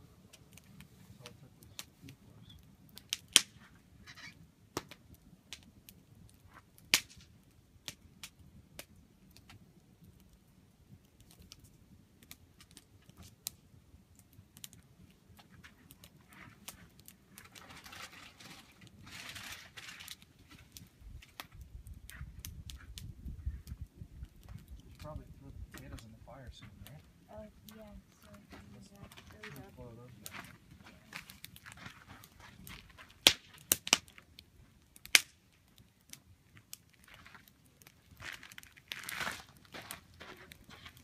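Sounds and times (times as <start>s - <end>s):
campfire crackling: 0.0s - 41.0s
fire popping: 0.0s - 41.0s.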